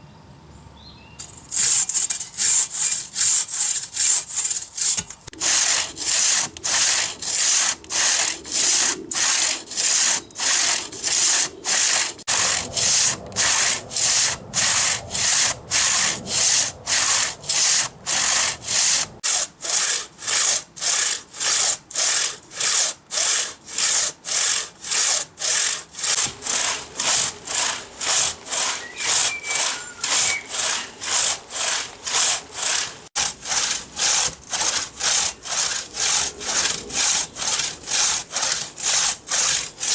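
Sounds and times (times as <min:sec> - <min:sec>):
hand saw cutting wood: 0:01.2 - 0:39.9.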